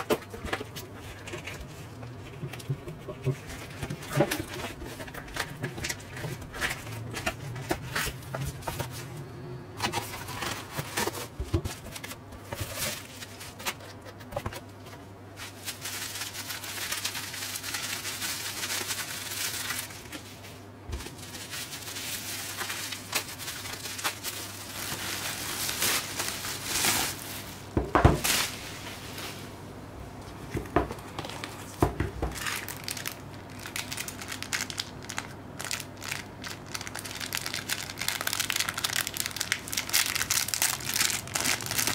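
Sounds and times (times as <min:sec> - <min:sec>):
packing material rustling and crinkling: 0:00.0 - 0:09.1, 0:09.8 - 0:29.6, 0:30.2 - 0:41.9.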